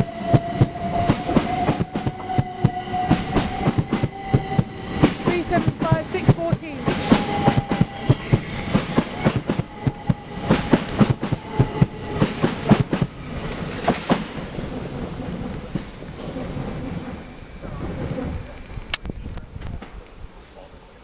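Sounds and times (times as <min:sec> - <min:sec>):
train wheels clattering over rails: 0:00.0 - 0:20.1
train rumble: 0:00.0 - 0:20.6.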